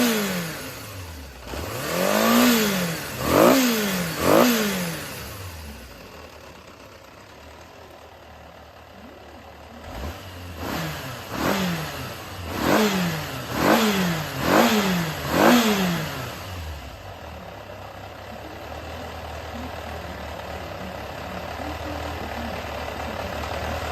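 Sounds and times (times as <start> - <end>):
motorcycle engine idling and revving: 0.0 - 23.9.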